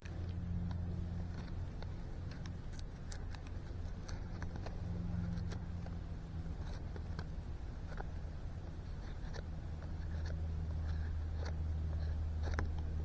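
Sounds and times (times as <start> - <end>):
distant engine hum: 0.0 - 13.0
knife shaving wood: 0.0 - 13.0.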